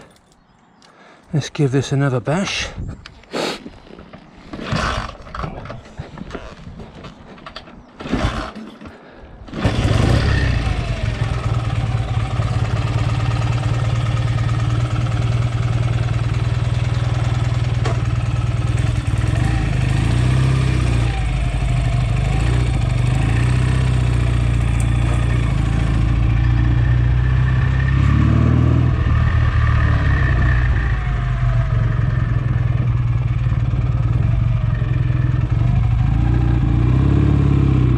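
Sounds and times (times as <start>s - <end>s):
motorcycle engine starting: 4.5s - 6.6s, 7.4s - 37.9s.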